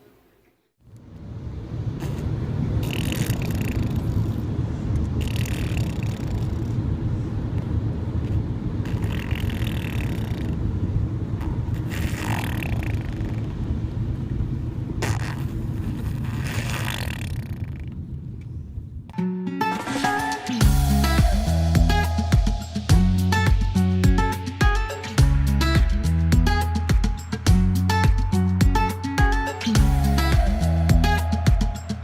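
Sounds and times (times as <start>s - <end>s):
steady low rumble: 0.8s - 16.4s, 20.6s - 32.0s.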